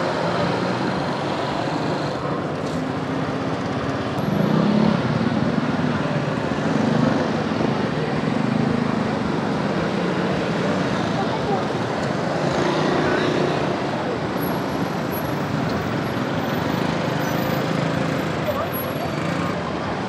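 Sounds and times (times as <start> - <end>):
scooter and motorcycle engines: 0.0 - 20.0.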